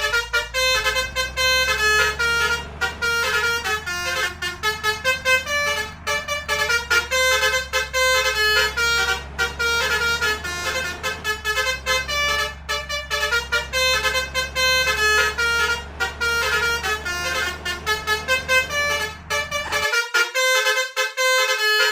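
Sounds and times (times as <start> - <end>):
low engine rumble: 0.0 - 20.0
multi-tone musical horn melody: 0.0 - 21.9.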